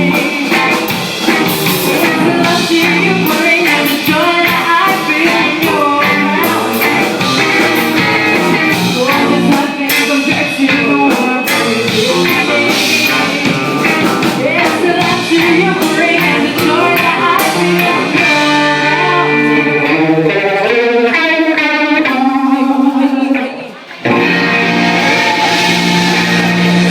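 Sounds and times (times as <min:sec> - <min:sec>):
electric guitar: 0:00.0 - 0:26.9
live rock band playing: 0:00.0 - 0:26.9
person singing: 0:00.0 - 0:26.9.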